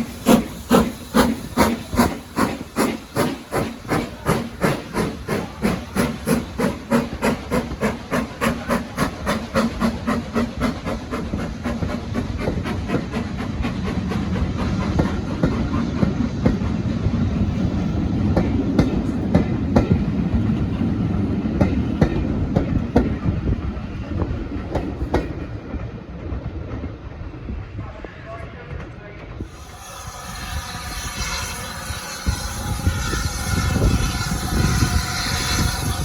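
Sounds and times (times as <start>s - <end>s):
steam locomotive exhaust beats: 0.0s - 27.7s, 28.6s - 36.0s
train coaches rumbling by: 0.0s - 36.0s.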